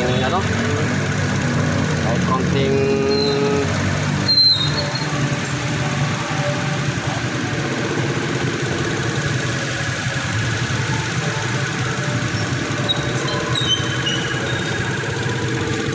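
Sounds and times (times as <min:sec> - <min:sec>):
car engine idling quietly: 0:00.0 - 0:15.9.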